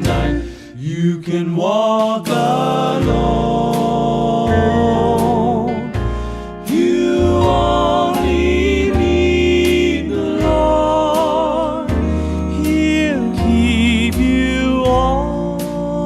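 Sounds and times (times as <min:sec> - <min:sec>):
walking bass line: 0:00.0 - 0:00.7, 0:03.0 - 0:16.0
steady drum beat: 0:00.0 - 0:01.3, 0:01.9 - 0:16.0
vocal harmonies with vibrato: 0:00.0 - 0:16.0.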